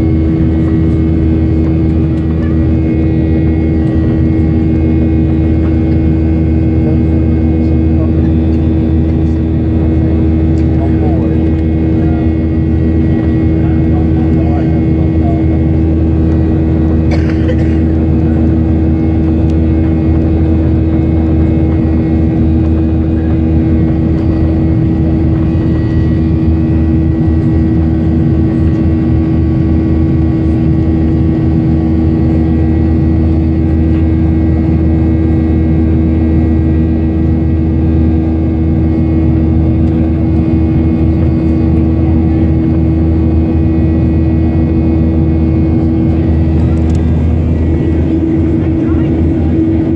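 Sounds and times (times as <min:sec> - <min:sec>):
jet engine drone: 0:00.0 - 0:49.9
low hum: 0:00.0 - 0:49.9.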